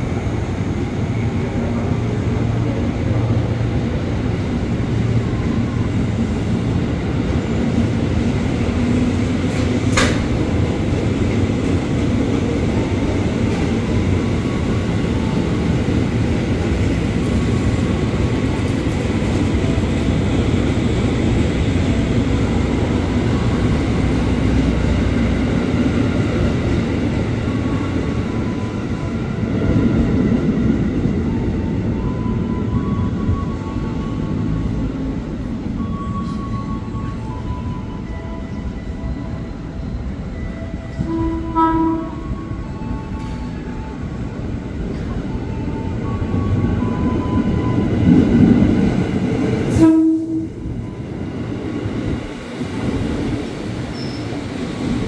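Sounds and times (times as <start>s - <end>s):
electric train rumbling: 0.0s - 55.0s.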